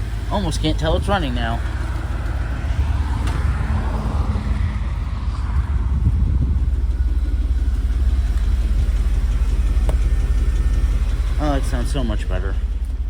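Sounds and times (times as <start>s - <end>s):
truck exhaust rumble: 0.0s - 13.0s.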